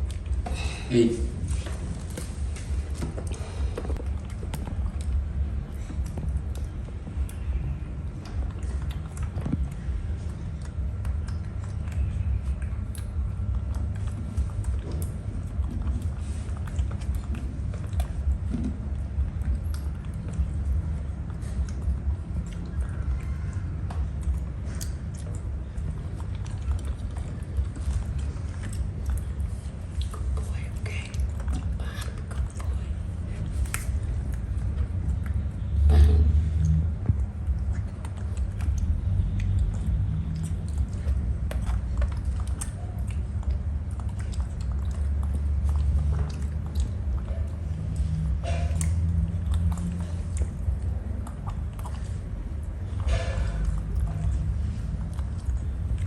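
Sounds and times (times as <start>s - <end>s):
monkey chewing grapes: 0.0s - 56.0s.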